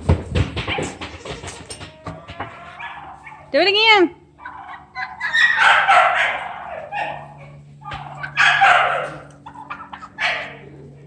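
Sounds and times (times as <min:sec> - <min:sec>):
young turkeys gobbling: 0:00.6 - 0:11.0.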